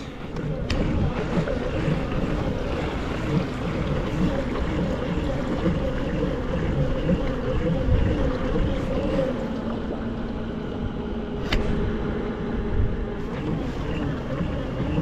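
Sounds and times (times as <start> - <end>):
water rushing and splashing: 0.0 - 12.1
boat motor running: 0.0 - 15.0.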